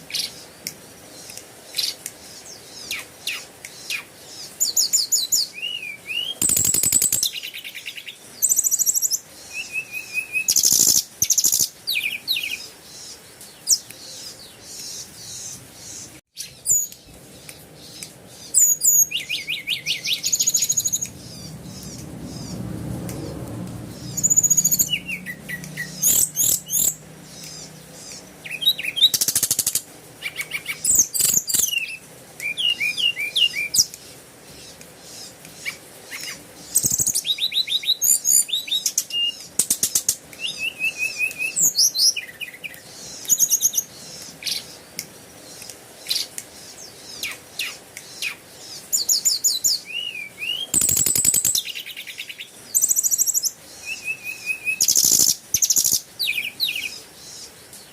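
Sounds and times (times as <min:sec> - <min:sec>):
birds chirping and singing: 0:00.0 - 0:57.9.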